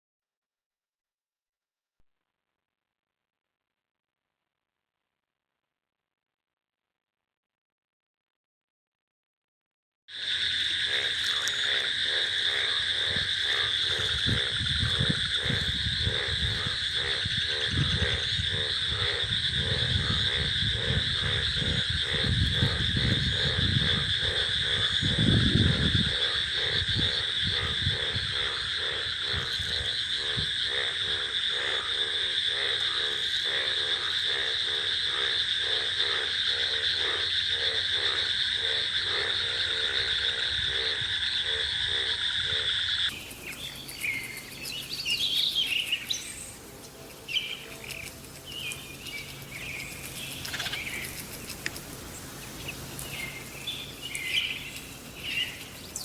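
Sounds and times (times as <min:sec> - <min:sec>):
frogs calling: 0:10.1 - 0:56.0.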